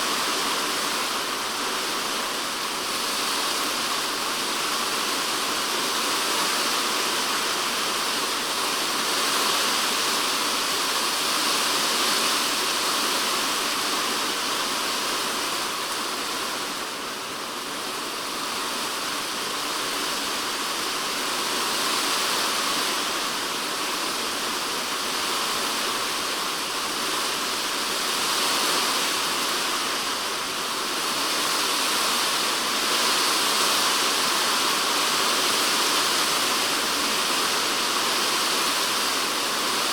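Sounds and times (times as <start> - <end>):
heavy rain on a plastic roof: 0.0 - 39.9.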